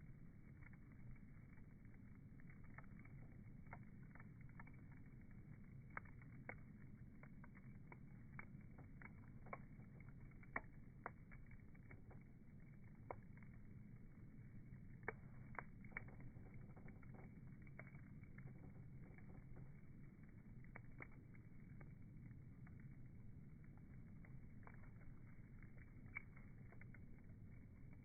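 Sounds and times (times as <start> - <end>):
bonfire crackling and popping: 0.0 - 28.0
low rush of burning fire: 0.0 - 28.0.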